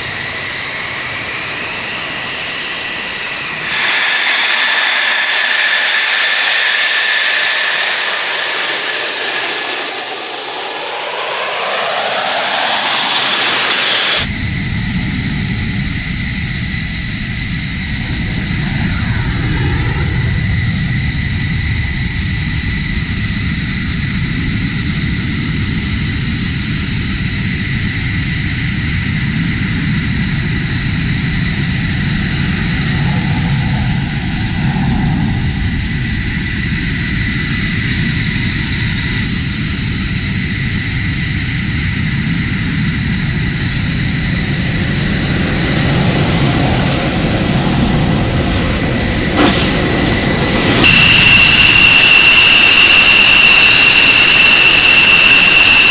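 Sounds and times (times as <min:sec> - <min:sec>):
jet engine whining: 0:00.0 - 0:55.9.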